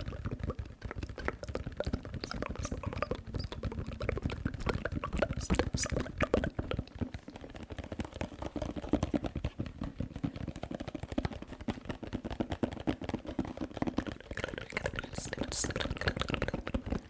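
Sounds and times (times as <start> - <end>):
rapid small taps: 0.0 - 17.0.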